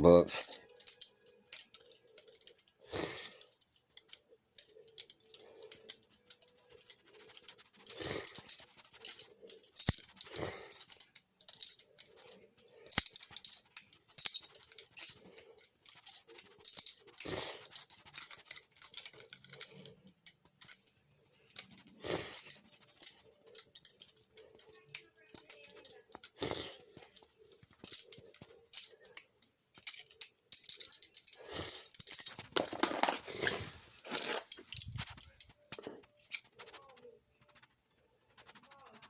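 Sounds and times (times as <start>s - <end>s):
butterfly knife clicking and rattling: 0.2s - 36.8s.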